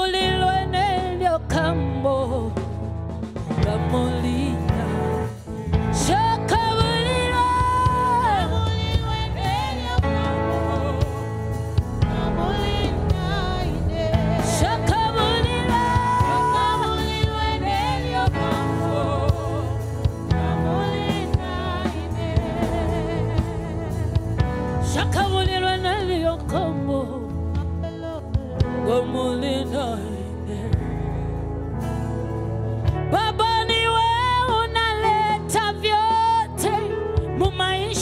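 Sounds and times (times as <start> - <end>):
band with drum kit: 0.0 - 38.0
woman singing with vibrato: 3.6 - 5.2, 5.8 - 31.2, 33.1 - 38.0.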